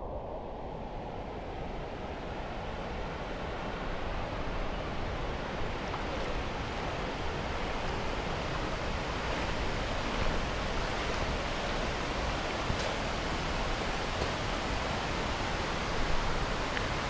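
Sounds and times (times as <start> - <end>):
shallow river water rushing: 0.0 - 17.0.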